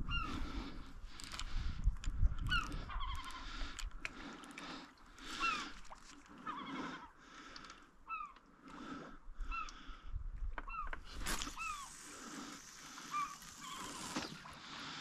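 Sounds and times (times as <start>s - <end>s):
seabirds calling: 0.0s - 0.8s, 2.4s - 15.0s.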